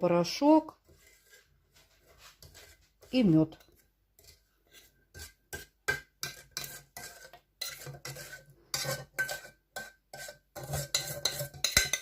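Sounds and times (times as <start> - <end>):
spoon scraping thick mixture: 0.0 - 12.0.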